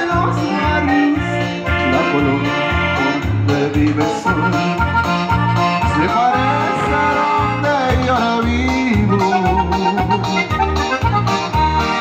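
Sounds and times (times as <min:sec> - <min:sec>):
accordion melody: 0:00.0 - 0:12.0
pulsing bass beat: 0:00.1 - 0:12.0.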